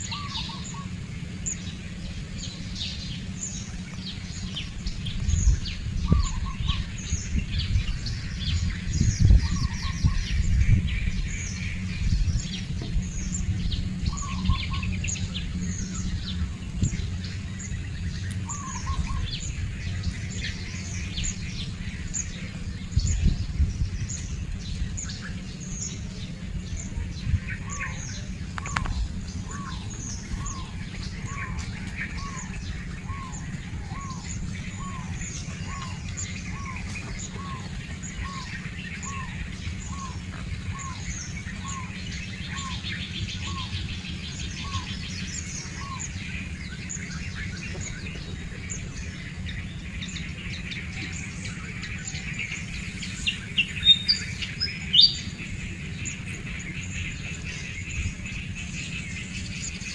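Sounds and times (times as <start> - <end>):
birds chirping: 0.0 - 59.9
steady low rumble: 0.0 - 59.9.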